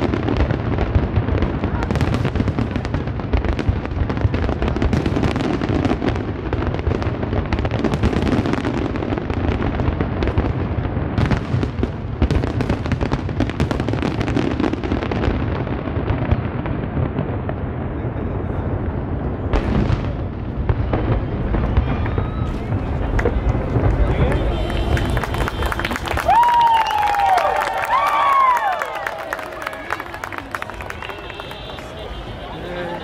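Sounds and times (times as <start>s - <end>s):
fireworks bursting: 0.0s - 33.0s
fireworks crackling: 0.0s - 33.0s.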